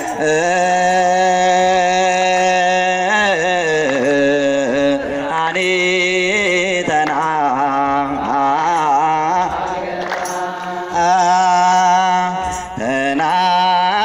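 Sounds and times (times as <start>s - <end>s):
person singing a religious chant: 0.0s - 14.0s.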